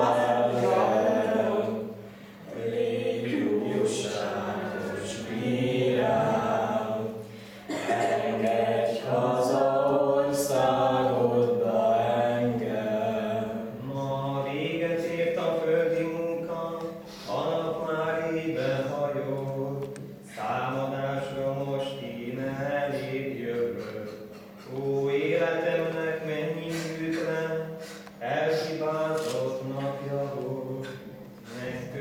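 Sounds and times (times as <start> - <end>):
unaccompanied voices chanting: 0.0 - 32.0.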